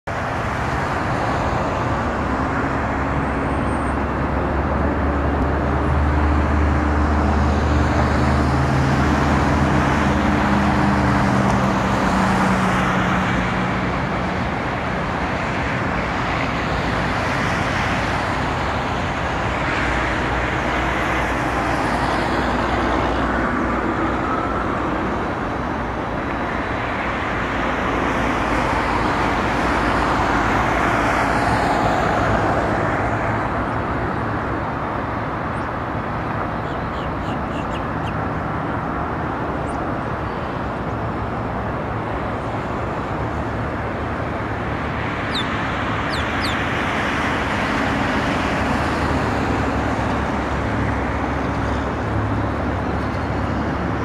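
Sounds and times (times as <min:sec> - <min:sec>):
road traffic rushing: 0:00.0 - 0:54.0.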